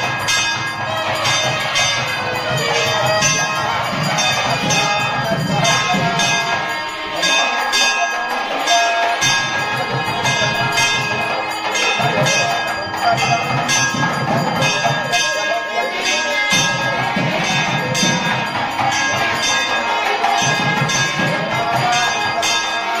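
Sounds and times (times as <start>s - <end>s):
temple bells ringing: 0.0s - 23.0s.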